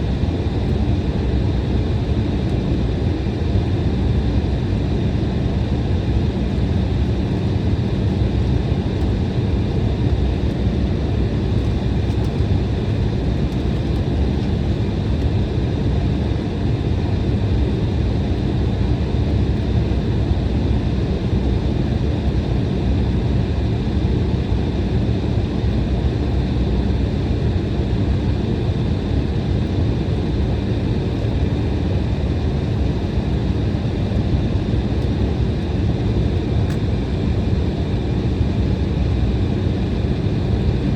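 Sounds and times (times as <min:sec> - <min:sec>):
jet engines rumbling in cabin: 0:00.0 - 0:40.9.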